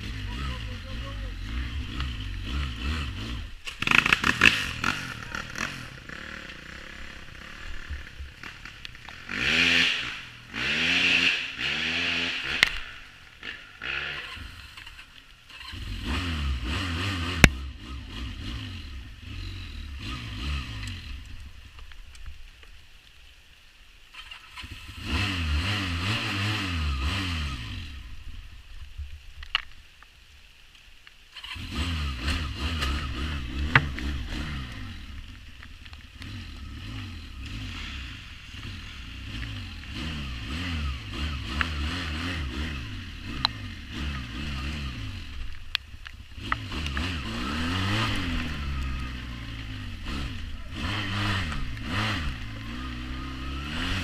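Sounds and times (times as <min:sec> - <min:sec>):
quad bike engine revving: 0:00.0 - 0:21.3, 0:24.2 - 0:28.1, 0:31.4 - 0:35.3, 0:36.1 - 0:45.7, 0:46.3 - 0:54.0.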